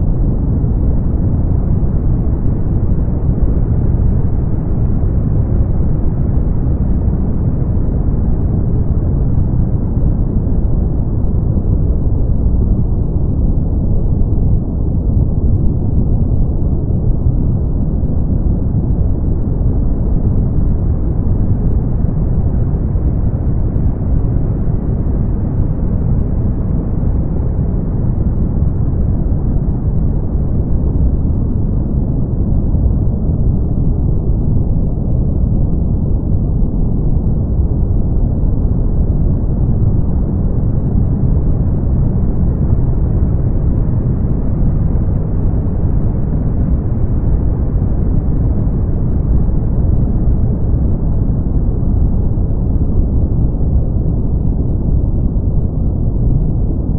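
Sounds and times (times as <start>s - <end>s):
deep rushing brown noise: 0.0s - 56.9s.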